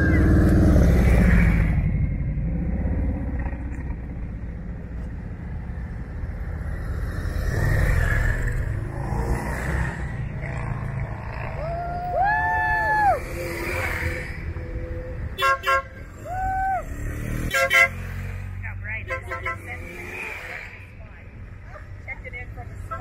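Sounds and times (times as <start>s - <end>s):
motorcycle engines passing: 0.0s - 23.0s.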